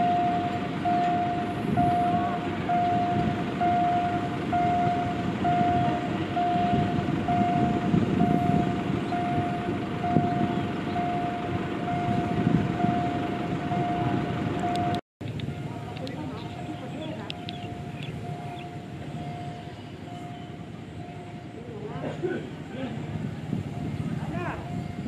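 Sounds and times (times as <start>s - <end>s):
electronic warning beeps: 0.0s - 21.7s, 23.6s - 25.0s
steady low rumble: 0.0s - 25.0s.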